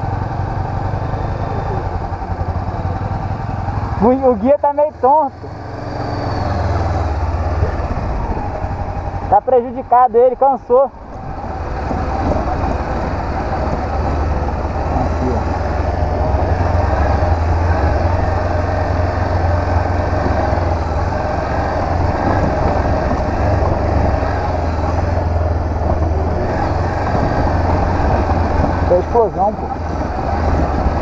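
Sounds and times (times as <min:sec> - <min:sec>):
motorcycle engine rumbling: 0:00.0 - 0:31.0
wind and road noise: 0:00.0 - 0:31.0.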